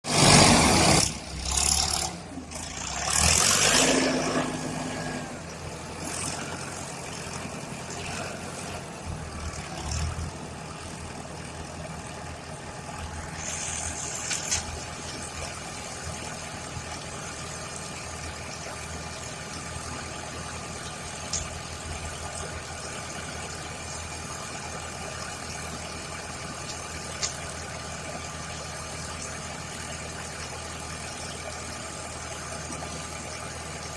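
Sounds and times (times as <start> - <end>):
truck engine idling: 0.1 - 33.9.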